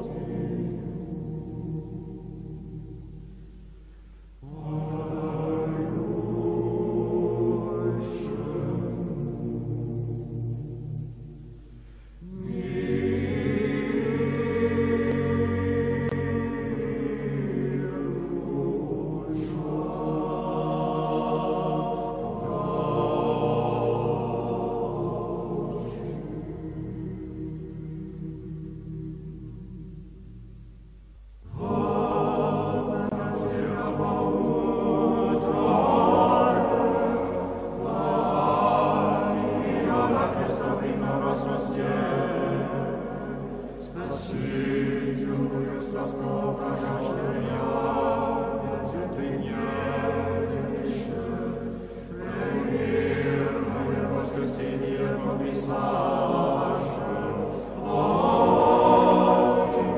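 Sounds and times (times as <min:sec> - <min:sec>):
choir chanting: 0:00.0 - 0:03.3, 0:04.4 - 0:30.3, 0:31.4 - 0:59.9.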